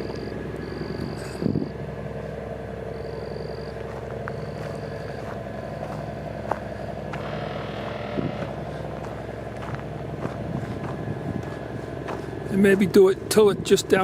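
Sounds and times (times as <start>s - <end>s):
steady motor hum: 0.0s - 14.0s.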